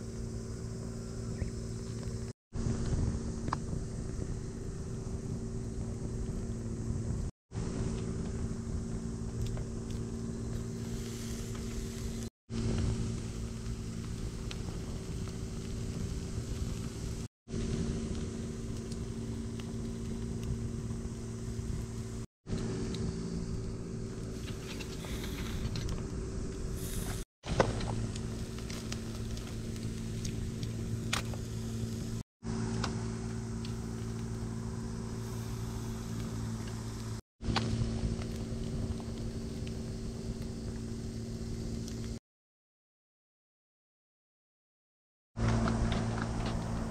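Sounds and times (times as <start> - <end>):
low mechanical hum: 0.0 - 42.2, 45.4 - 46.9
wood fire crackling: 0.2 - 42.2, 45.4 - 46.9.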